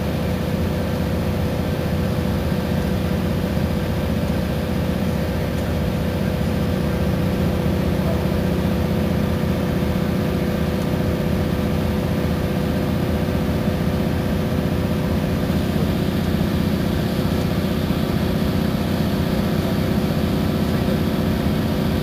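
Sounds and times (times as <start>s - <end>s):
bus diesel engine running: 0.0s - 22.0s.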